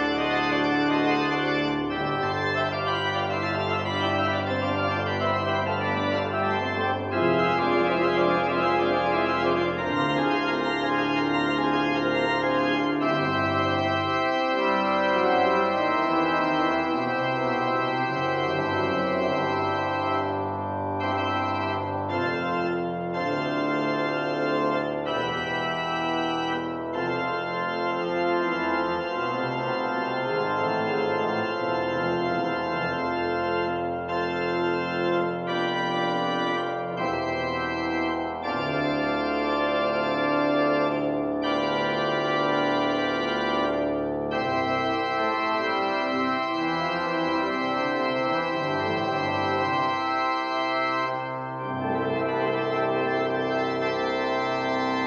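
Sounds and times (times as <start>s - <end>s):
church organ chords: 0.0s - 55.0s
deep organ pedal bass notes: 0.0s - 55.0s.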